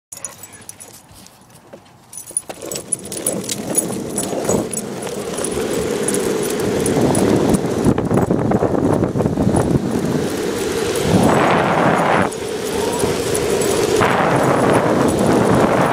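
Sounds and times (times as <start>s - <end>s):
dog collar tags jingling: 0.1s - 15.9s
longboard wheels rolling on asphalt: 1.6s - 15.9s.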